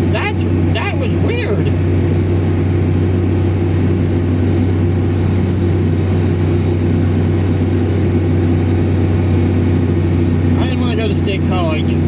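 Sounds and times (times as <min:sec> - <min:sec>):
vehicle engine and road hum: 0:00.0 - 0:12.0.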